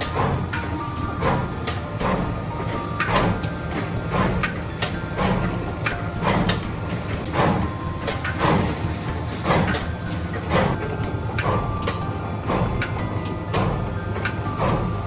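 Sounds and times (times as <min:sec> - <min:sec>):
machine motor hum: 0:00.0 - 0:15.0
sharp machine clack: 0:00.0 - 0:15.0.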